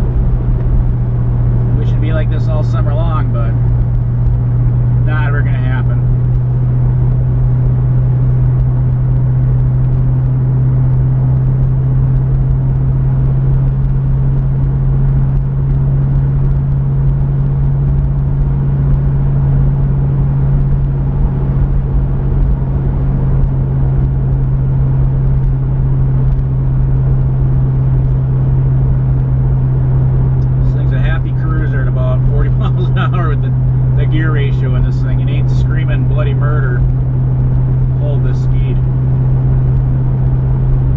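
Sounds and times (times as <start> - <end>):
car engine drone: 0.0 - 40.9
road and tyre noise: 0.0 - 40.9.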